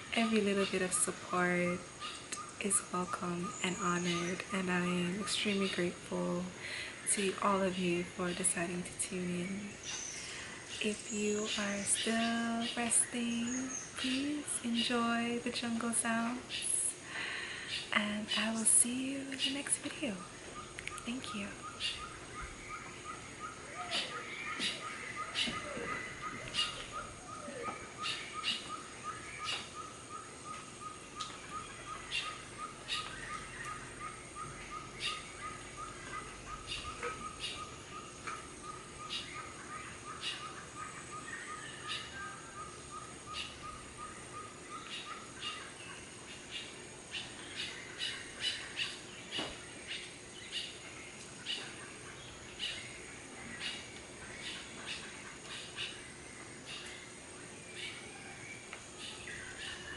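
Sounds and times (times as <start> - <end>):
faint high drone: 0.0 - 59.9.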